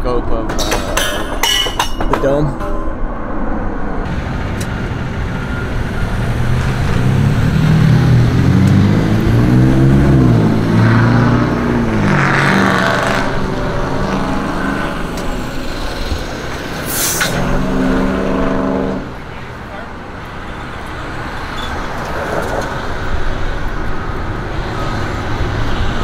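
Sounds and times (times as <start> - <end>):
large vehicle engine passing: 2.8 - 26.0.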